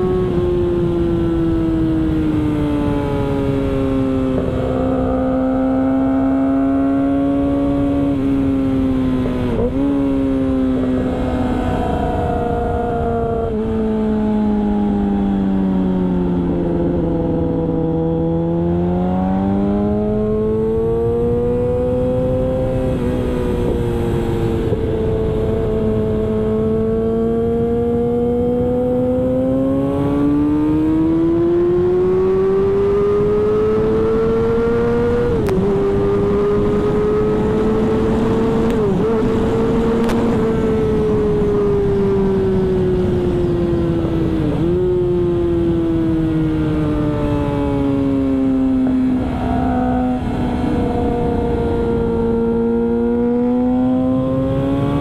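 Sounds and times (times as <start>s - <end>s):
motorcycle engine at speed: 0.0s - 55.0s
wind noise: 0.0s - 55.0s.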